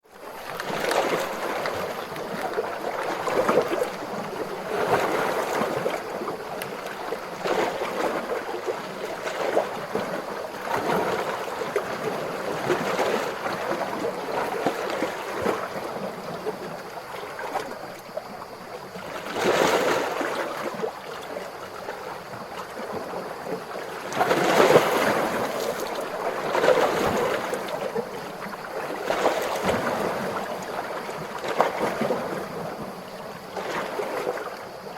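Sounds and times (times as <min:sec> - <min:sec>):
ocean waves lapping: 0:00.1 - 0:34.9.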